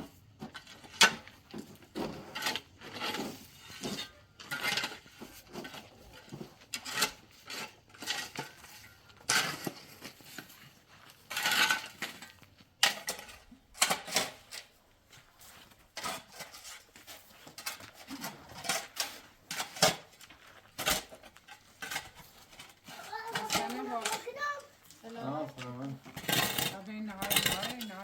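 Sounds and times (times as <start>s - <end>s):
hard objects clinking and scraping: 0.0s - 28.0s.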